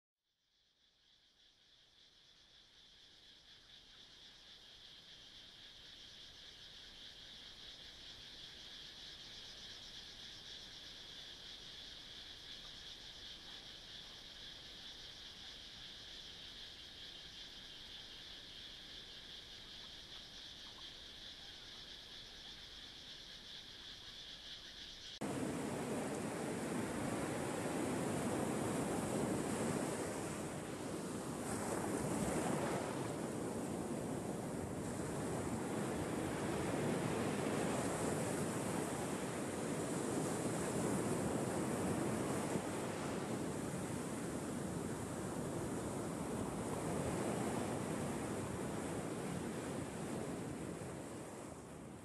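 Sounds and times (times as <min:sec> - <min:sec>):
insect chorus chirring: 0:00.4 - 0:52.0.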